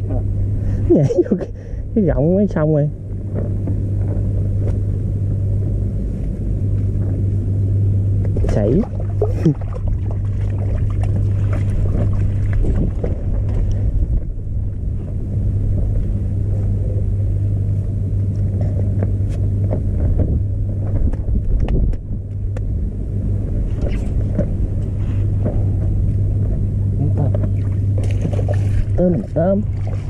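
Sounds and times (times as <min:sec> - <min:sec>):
motor droning: 0:00.0 - 0:30.0.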